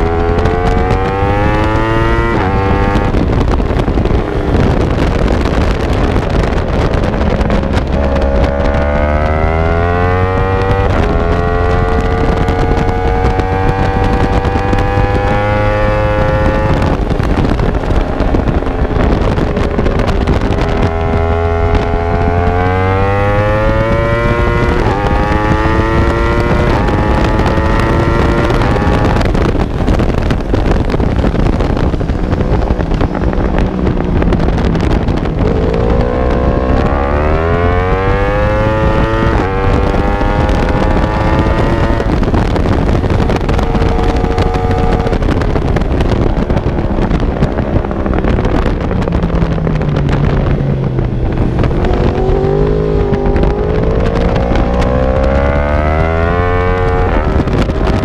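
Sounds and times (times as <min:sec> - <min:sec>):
motorcycle engine accelerating: 0:00.0 - 0:58.0
wind rush on microphone: 0:00.0 - 0:58.0.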